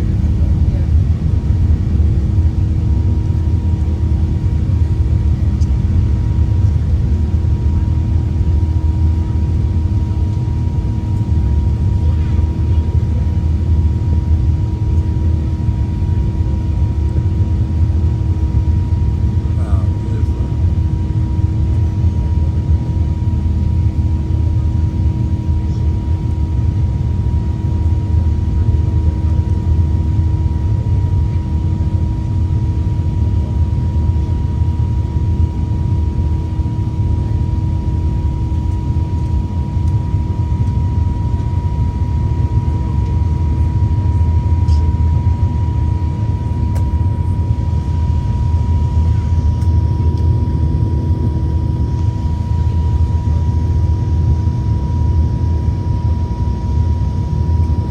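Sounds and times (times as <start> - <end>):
airliner cabin engine rumble: 0.0 - 57.9
constant hum: 0.0 - 57.9
faint steady whine: 0.0 - 57.9.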